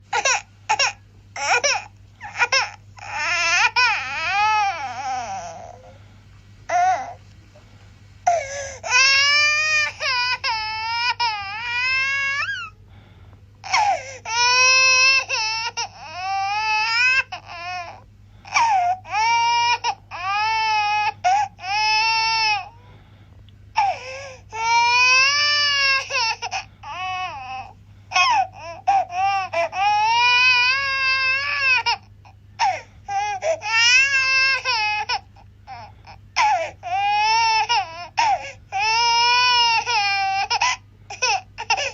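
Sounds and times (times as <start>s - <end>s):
faint low hum: 0.0s - 41.9s
baby crying: 0.1s - 6.0s, 6.7s - 7.2s, 8.3s - 12.8s, 13.6s - 22.8s, 23.8s - 41.9s.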